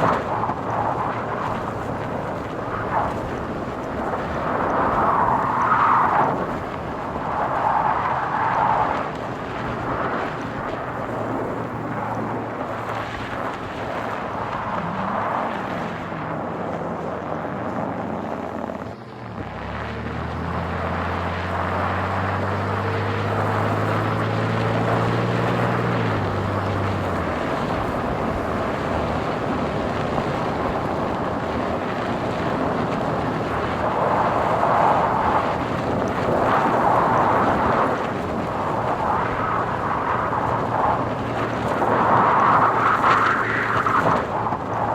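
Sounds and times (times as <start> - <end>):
engine hum: 0.0 - 44.9
tyre and road noise: 0.0 - 44.9.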